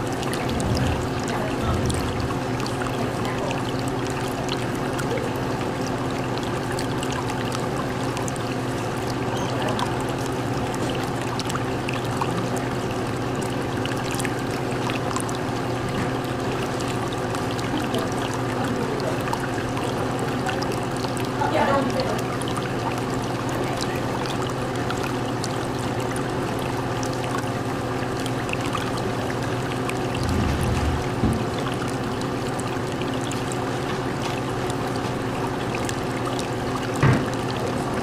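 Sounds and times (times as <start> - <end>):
low steady hum: 0.0 - 38.0
water running and trickling: 0.0 - 38.0.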